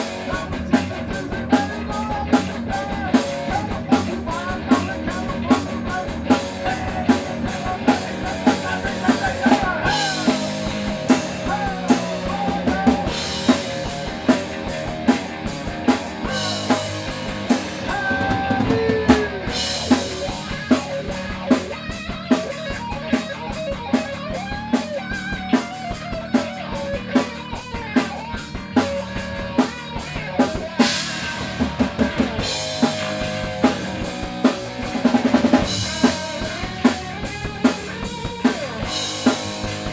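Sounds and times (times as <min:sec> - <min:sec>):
person singing: 0:00.0 - 0:23.6, 0:24.3 - 0:39.9
bass guitar: 0:00.0 - 0:39.9
drum kit: 0:00.0 - 0:39.9
electric guitar: 0:00.0 - 0:39.9.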